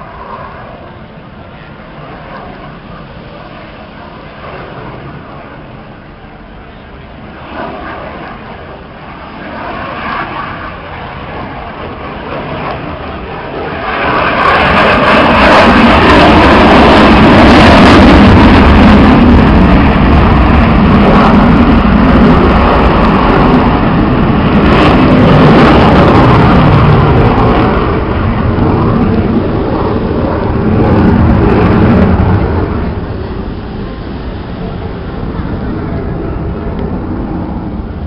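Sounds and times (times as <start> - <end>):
military jet flying past: 0.0 - 38.0.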